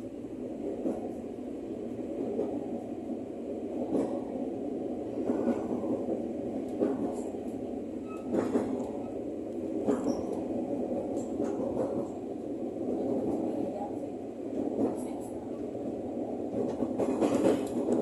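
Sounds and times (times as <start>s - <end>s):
train wheel and track rumble: 0.0s - 18.0s.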